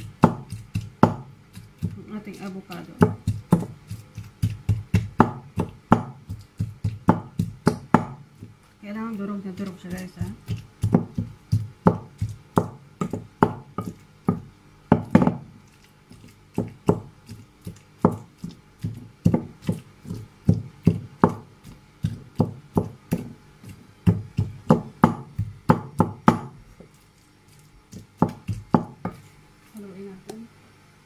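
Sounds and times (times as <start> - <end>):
pestle knocking in a bowl: 0.0 - 27.0, 27.9 - 29.3.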